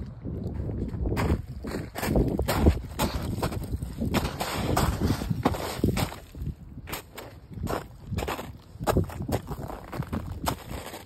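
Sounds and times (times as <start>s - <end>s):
footsteps with scuffs: 0.0s - 11.0s.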